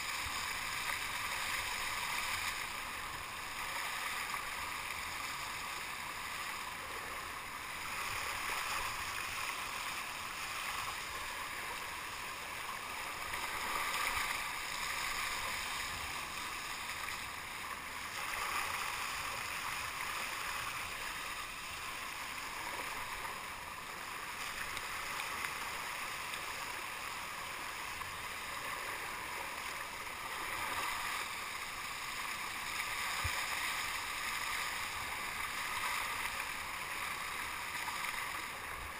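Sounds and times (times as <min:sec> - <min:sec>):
water rushing along kayak hull: 0:00.0 - 0:38.9.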